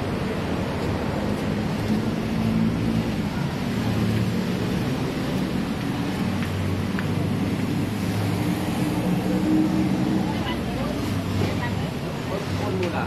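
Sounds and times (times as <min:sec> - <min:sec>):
vehicle engines humming: 0:00.0 - 0:13.0.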